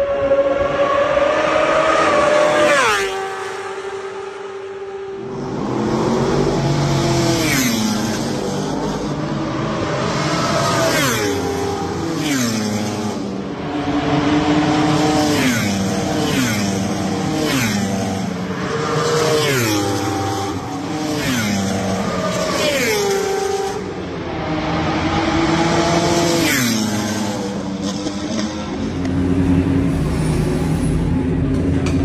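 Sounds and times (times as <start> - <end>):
race motorcycles passing at speed: 0.0 - 32.0.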